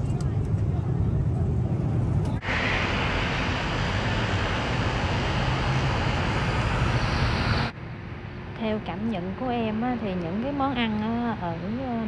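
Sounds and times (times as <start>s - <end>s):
airliner cabin jet engine drone: 0.0s - 12.0s.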